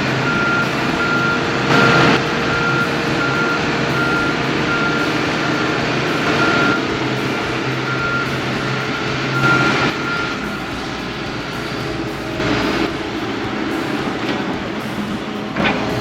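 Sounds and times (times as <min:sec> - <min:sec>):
backup alarm beeping: 0:00.0 - 0:13.2
heavy machine engine under load: 0:00.0 - 0:16.0.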